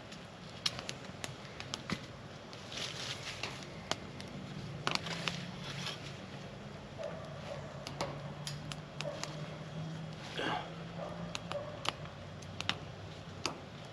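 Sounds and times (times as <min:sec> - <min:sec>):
campfire crackling and popping: 0:00.0 - 0:13.9.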